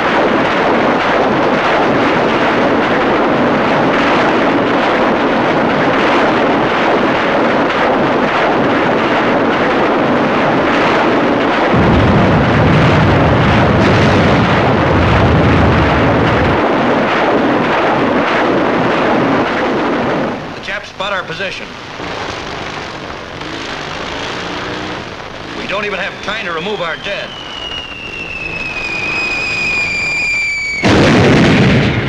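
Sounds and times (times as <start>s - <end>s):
heavy low rumble: 0.0s - 32.0s
rapid crackling: 0.0s - 32.0s
rocket launchers firing: 0.0s - 32.0s.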